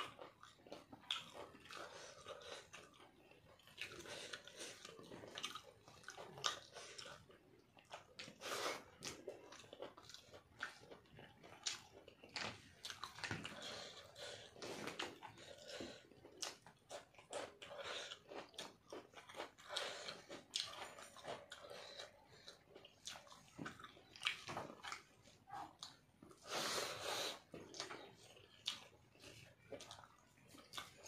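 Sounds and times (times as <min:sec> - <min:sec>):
wet chewing and lip-smacking: 0:00.0 - 0:31.0.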